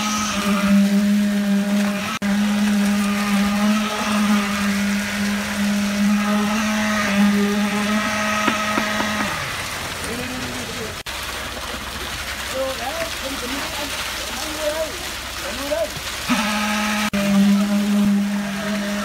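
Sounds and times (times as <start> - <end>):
concrete vibrator humming: 0.0 - 10.9, 12.6 - 19.0.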